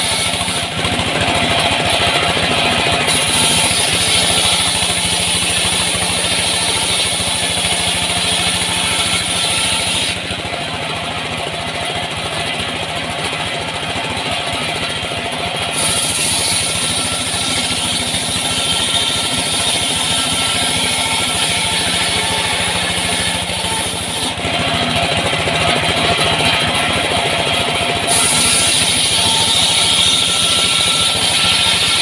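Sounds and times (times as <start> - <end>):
engine-driven wood saw: 0.0 - 32.0.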